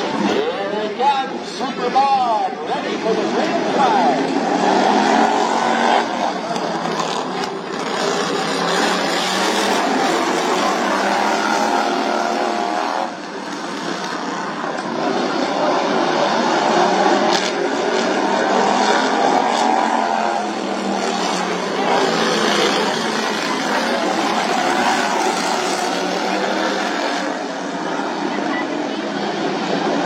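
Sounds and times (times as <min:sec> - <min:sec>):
lawnmower engines at high revs: 0:03.6 - 0:27.9.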